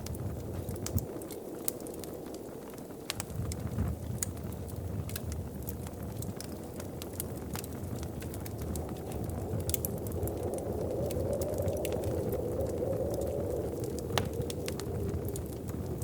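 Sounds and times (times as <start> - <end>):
low rumble of fire and wind: 0.0 - 16.0
sharp fire pops: 0.0 - 16.0
wood fire crackling: 0.0 - 16.0.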